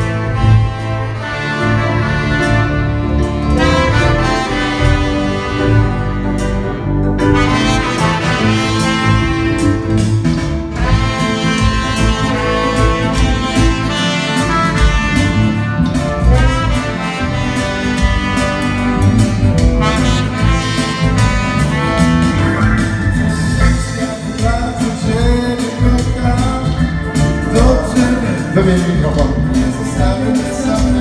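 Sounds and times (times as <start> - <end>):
bass: 0.0 - 31.0
drum kit: 0.0 - 31.0
keyboard: 0.0 - 31.0
saxophone and trumpet melody: 0.0 - 31.0.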